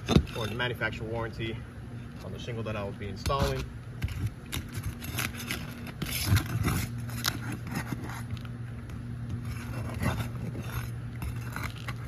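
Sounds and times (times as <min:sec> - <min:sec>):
pry bar scraping under shingles: 0:00.0 - 0:01.3, 0:03.1 - 0:12.0
low hum: 0:00.0 - 0:12.0.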